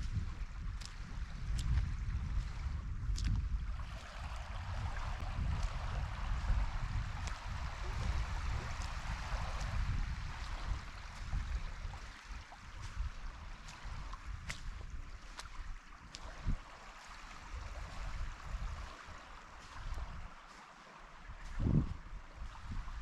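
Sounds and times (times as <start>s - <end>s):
wind buffeting microphone: 0.0s - 20.5s, 21.2s - 23.0s
sea water lapping: 0.1s - 23.0s.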